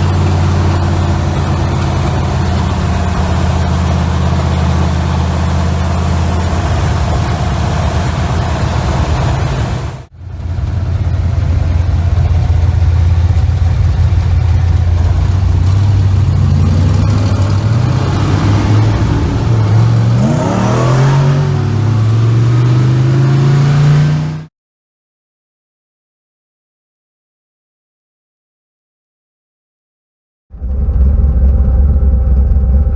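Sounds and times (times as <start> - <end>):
car engine accelerating: 0.0 - 24.5, 30.6 - 32.9.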